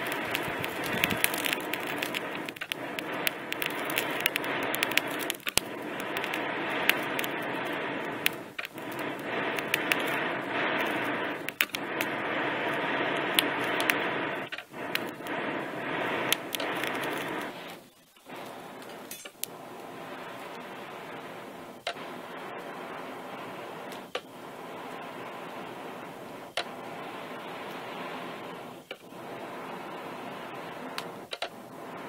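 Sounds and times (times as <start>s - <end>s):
rush of air and fire: 0.0s - 32.0s
sparks crackling: 0.0s - 32.0s.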